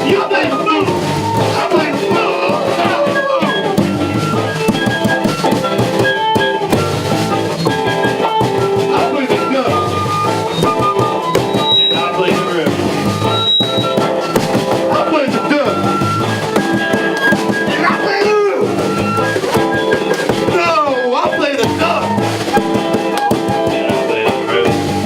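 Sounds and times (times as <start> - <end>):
bass guitar: 0.0 - 25.0
drum kit: 0.0 - 25.0
guitars: 0.0 - 25.0.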